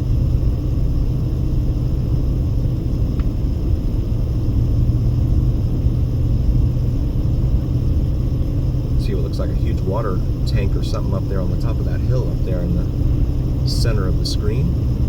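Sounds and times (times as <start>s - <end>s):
car engine and road rumble: 0.0s - 15.0s
constant low hum: 0.0s - 15.0s.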